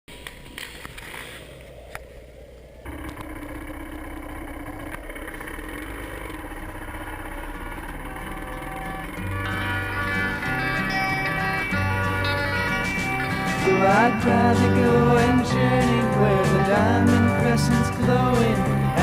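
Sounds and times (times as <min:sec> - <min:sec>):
motocross bike engine idling: 0:01.1 - 0:19.0.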